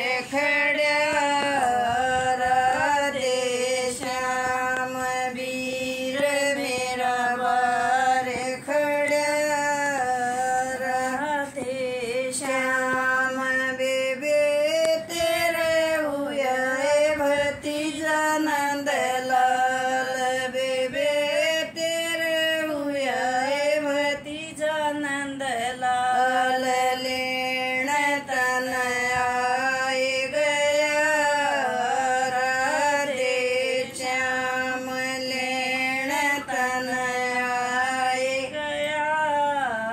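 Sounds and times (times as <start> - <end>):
elderly woman singing unaccompanied: 0.0 - 39.9.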